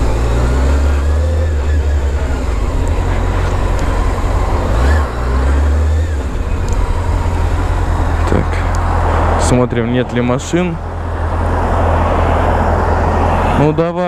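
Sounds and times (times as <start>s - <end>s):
motorcycle engine low rumble: 0.0s - 14.0s.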